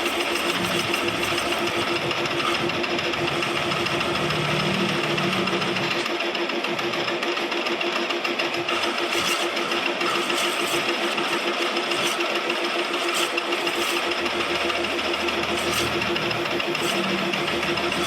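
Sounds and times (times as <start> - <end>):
lathe humming: 0.0 - 18.0.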